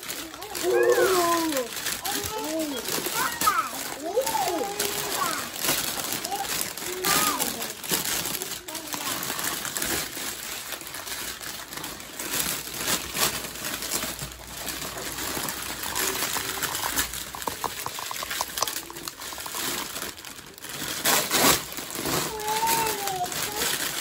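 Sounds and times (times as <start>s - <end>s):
cellophane wrap crinkling: 0.0s - 24.0s.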